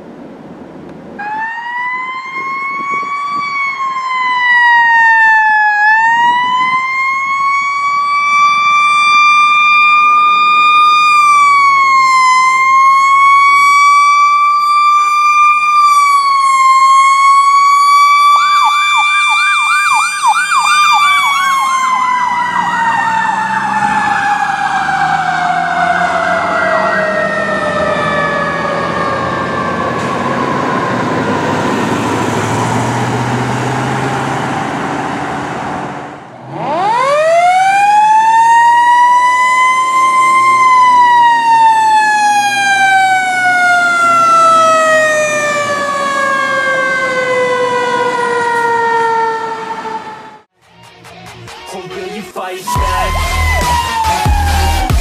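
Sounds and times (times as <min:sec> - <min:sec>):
truck engine rumbling: 0:00.0 - 0:50.6, 0:52.8 - 0:55.0
siren fast yelp: 0:01.2 - 0:31.5, 0:36.6 - 0:50.5, 0:52.7 - 0:55.0
siren wailing: 0:01.2 - 0:34.8, 0:36.4 - 0:50.5, 0:52.7 - 0:55.0.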